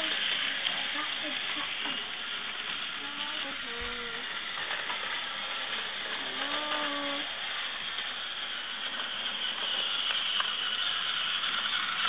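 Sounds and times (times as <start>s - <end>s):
toy train motors whirring: 0.0s - 12.0s.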